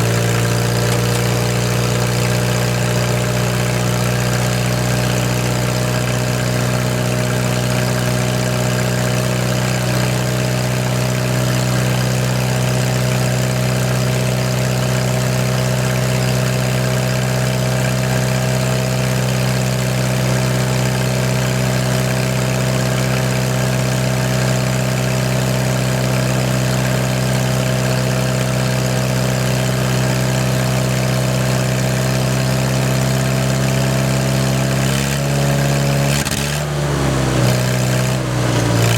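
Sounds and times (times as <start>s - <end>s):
welder engine running: 0.0s - 38.9s.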